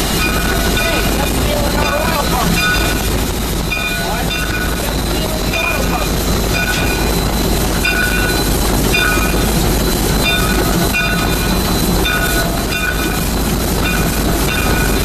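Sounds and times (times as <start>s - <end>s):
locomotive bell ringing: 0.0s - 15.0s
steam train rumble and clatter: 0.0s - 15.0s.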